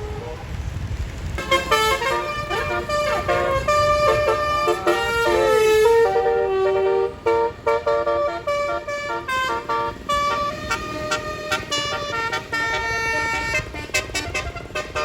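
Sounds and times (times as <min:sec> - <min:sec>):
bus multi-note horn tune: 0:00.0 - 0:15.0.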